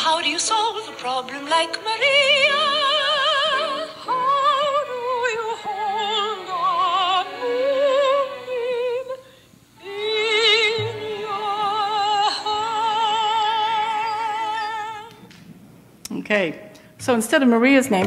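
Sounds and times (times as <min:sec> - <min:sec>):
women singing in harmony: 0:00.0 - 0:09.2, 0:09.8 - 0:15.2.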